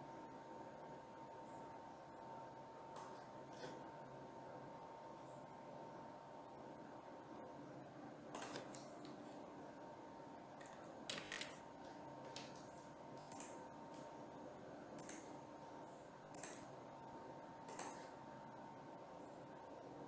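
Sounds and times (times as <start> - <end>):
thin steady hum: 0.0 - 20.0.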